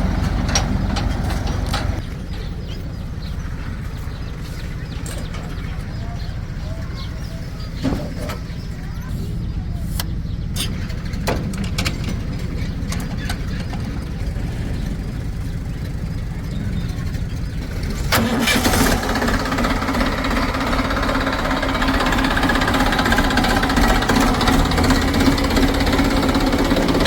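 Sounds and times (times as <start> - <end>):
heavy machinery diesel engine running: 0.0 - 27.0.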